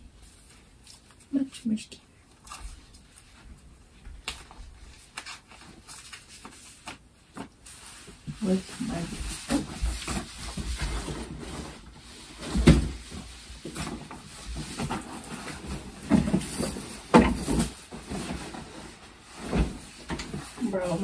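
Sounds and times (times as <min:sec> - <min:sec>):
clothes rustling and shuffling: 0:00.0 - 0:21.0.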